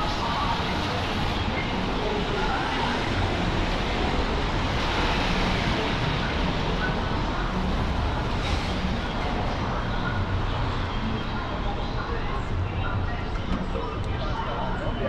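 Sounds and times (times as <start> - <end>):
traffic on a wet street: 0.0 - 14.9.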